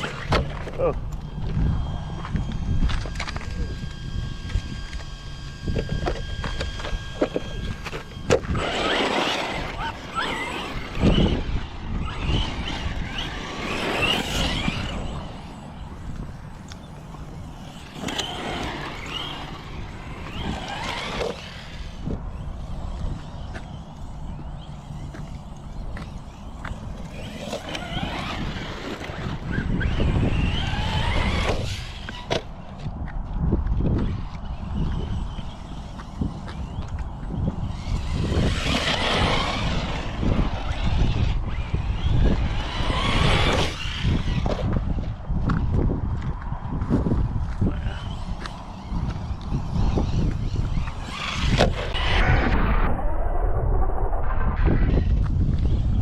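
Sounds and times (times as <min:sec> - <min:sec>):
tyres rumbling on ground: 0:00.0 - 0:32.8, 0:33.9 - 0:53.0
electric motor whine: 0:00.0 - 0:56.0.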